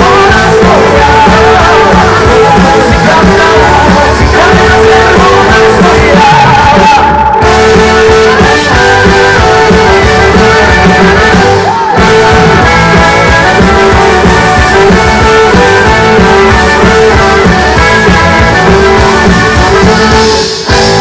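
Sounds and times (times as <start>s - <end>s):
live rock band with singing: 0.0s - 21.0s.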